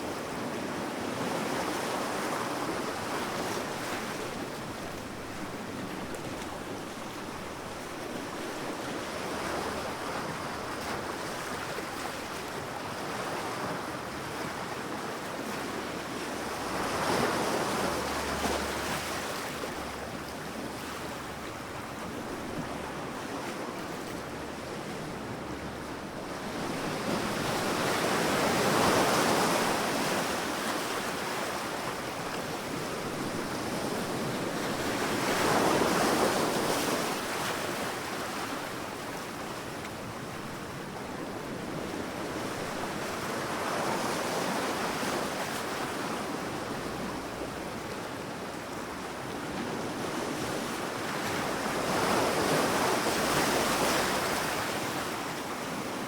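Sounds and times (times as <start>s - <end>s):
sea waves breaking on a beach: 0.0s - 56.0s.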